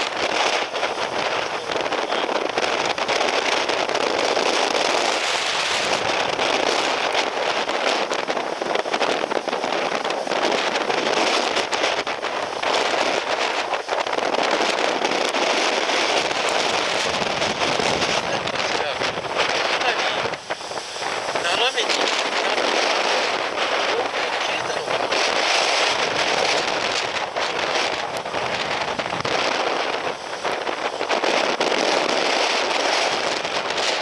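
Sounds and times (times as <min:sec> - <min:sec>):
constant crackling: 0:00.0 - 0:34.0
strong wind buffeting microphone: 0:00.0 - 0:34.0.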